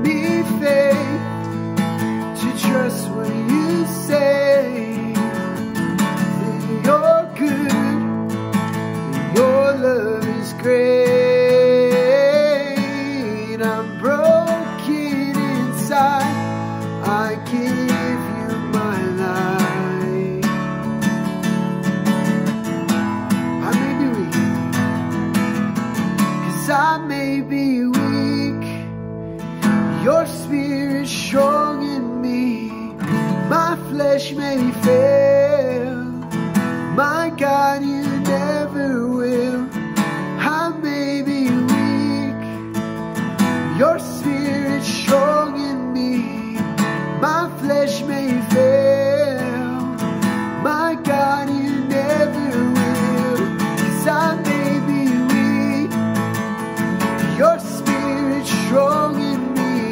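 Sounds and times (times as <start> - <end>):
man singing: 0.0 - 21.7, 23.3 - 25.0, 26.0 - 29.0, 29.6 - 59.9
acoustic guitar strummed: 0.0 - 59.9.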